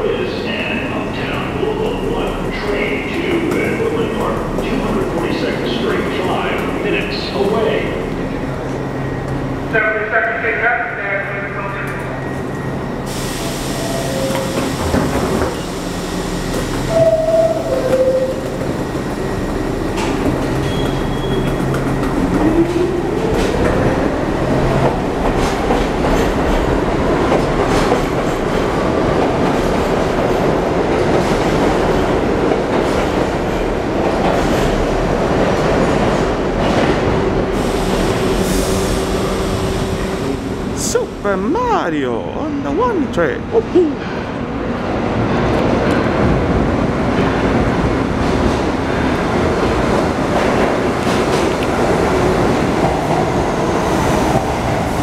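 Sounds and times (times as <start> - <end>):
train wheels rumbling and clattering: 0.0 - 41.6, 44.0 - 55.0.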